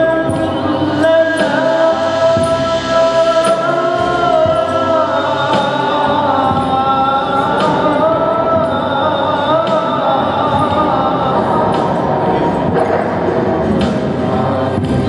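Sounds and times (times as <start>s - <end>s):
men singing in unison: 0.0s - 15.0s.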